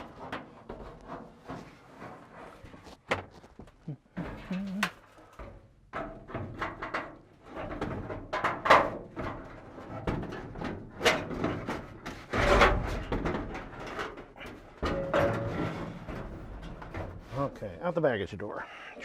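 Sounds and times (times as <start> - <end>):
metal panel knocks and scrapes: 0.0 - 3.4, 5.3 - 17.7.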